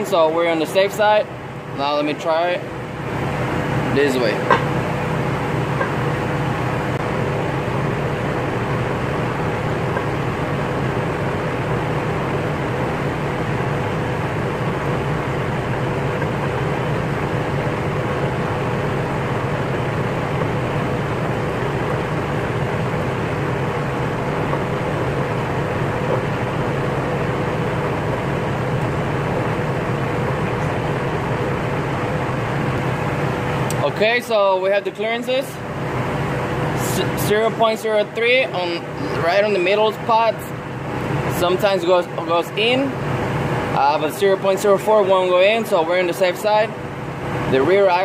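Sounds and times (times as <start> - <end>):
machine hum and hiss: 0.0 - 48.0.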